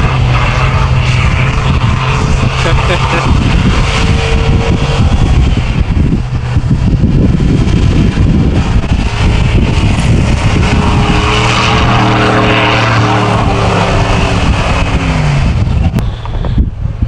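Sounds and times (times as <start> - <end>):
tyres spinning in snow: 0.0 - 16.6
truck engine revving: 0.0 - 17.0
wind rumble on microphone: 0.0 - 17.0.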